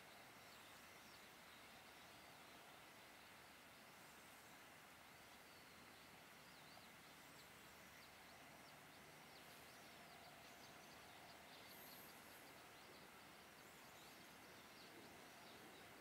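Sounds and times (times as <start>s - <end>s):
background hiss: 0.0s - 16.0s
songbirds chirping: 0.0s - 16.0s.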